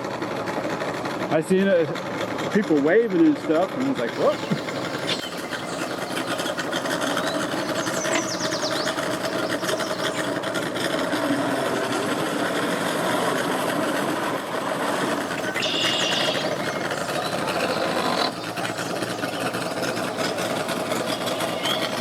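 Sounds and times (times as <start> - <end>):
boat motor chugging: 0.4 - 22.0.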